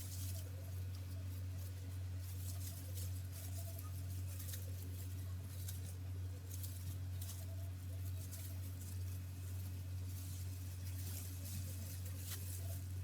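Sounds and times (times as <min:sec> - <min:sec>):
scratching and rustling in hair: 0:00.0 - 0:13.0
steady low hum: 0:00.0 - 0:13.0.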